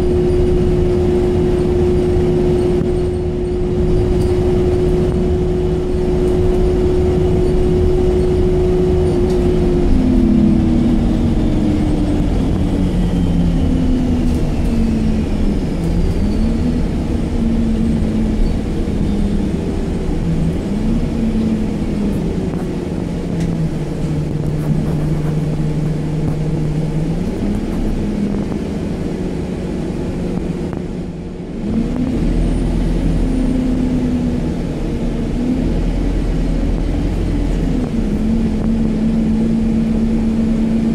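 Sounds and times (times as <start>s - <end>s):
bus engine running: 0.0s - 40.9s
deep low rumble: 0.0s - 40.9s
road noise: 0.0s - 40.9s.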